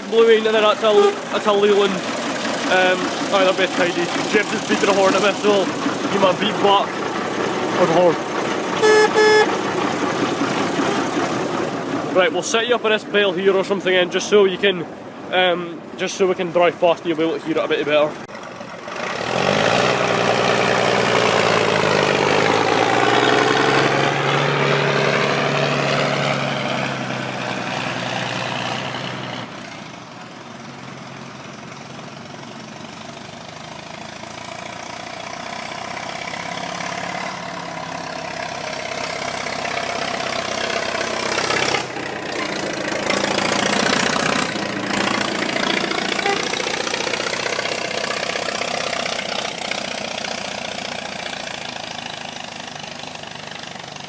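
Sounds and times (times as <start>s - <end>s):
diesel tractor driving past: 0.0s - 54.0s.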